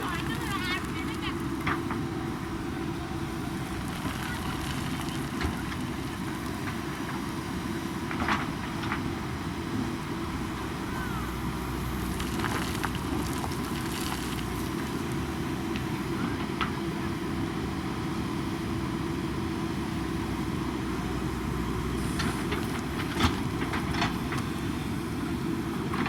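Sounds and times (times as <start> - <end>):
backhoe diesel engine running: 0.0 - 26.0.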